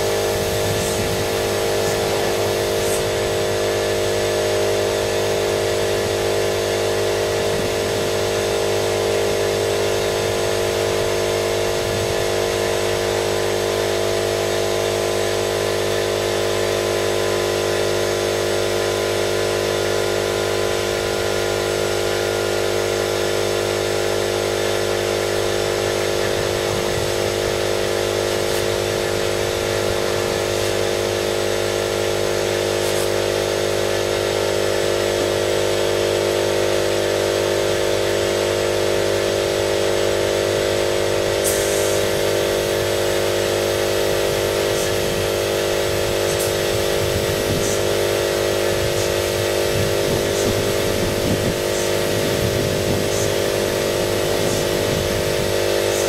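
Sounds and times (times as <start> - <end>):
air compressor running: 0.0 - 56.0.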